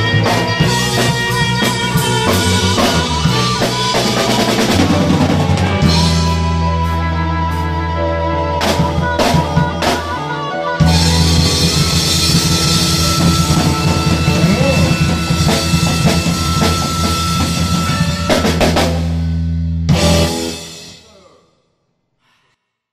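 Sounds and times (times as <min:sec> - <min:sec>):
blues-rock band music: 0:00.0 - 0:21.0.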